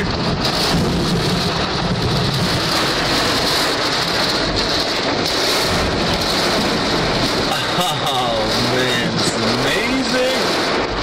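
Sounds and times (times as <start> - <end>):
torrential rain on a car: 0.0 - 11.0.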